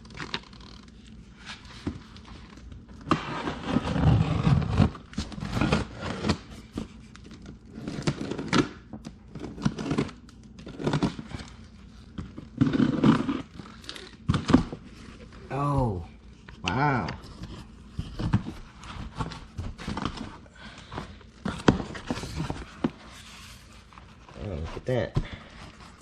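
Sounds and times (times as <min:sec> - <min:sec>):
cardboard rustling and tearing: 0:00.0 - 0:26.0.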